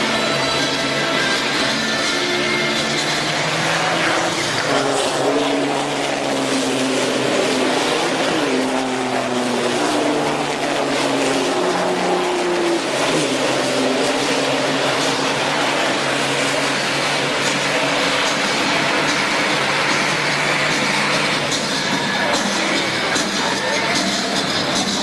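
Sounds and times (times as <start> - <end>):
truck diesel engines revving: 0.0 - 25.0.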